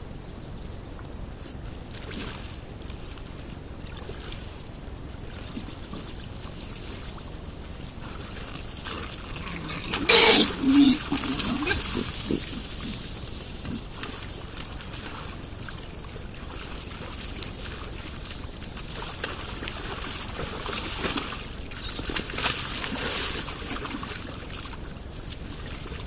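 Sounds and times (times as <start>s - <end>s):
mud sloshing: 1.3s - 26.0s.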